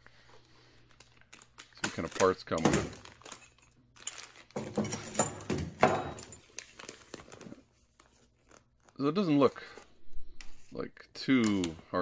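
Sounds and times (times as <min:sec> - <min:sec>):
plastic bags and paper rustling: 0:00.1 - 0:04.8, 0:06.4 - 0:12.0.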